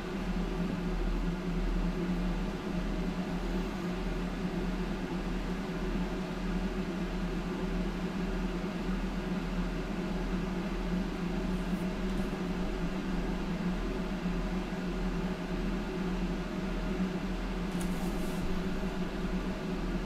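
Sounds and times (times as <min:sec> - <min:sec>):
computer fans humming: 0:00.0 - 0:20.0.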